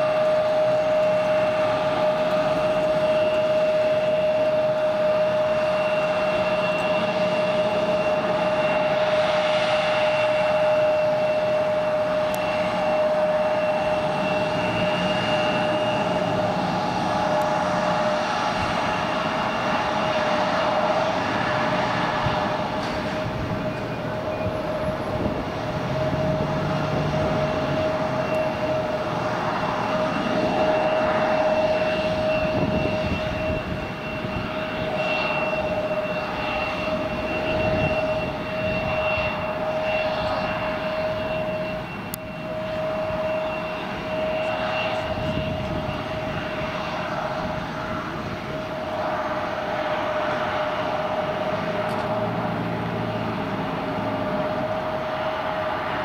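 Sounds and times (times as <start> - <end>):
airliner engines whining: 0.0 - 56.0.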